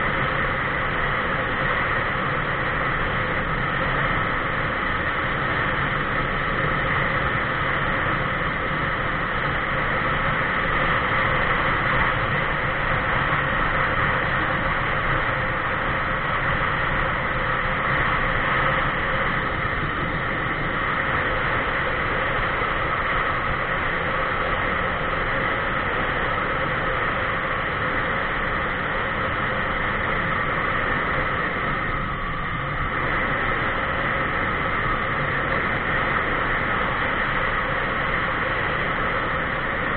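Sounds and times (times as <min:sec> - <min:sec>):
constant low drone: 0:00.0 - 0:39.9
wind rush: 0:00.0 - 0:39.9.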